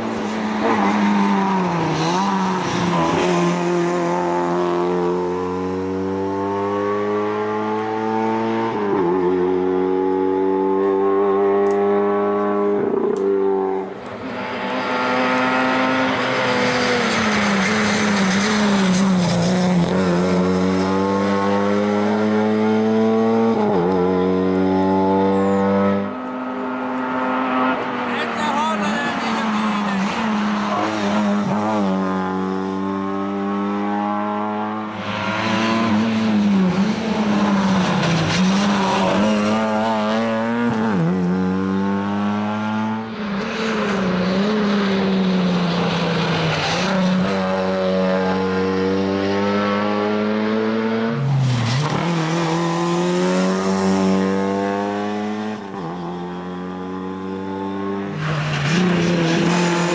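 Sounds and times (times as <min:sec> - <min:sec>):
rally car engine at full throttle: 0:00.0 - 0:59.9.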